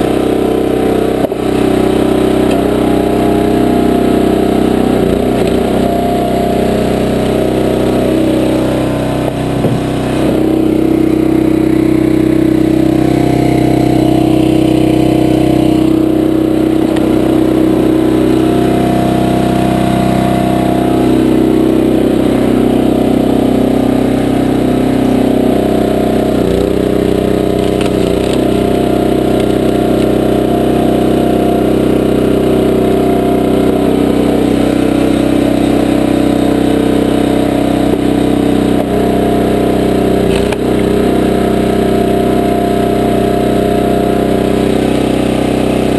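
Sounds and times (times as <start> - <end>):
log splitter engine running: 0.0 - 45.9.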